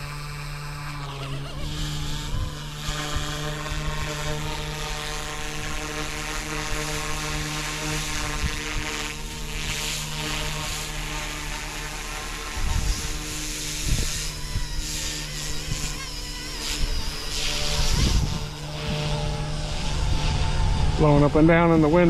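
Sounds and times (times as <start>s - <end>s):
rc helicopter motor whine: 0.0s - 22.0s
wind on microphone: 1.7s - 5.9s, 6.6s - 10.9s, 12.0s - 22.0s.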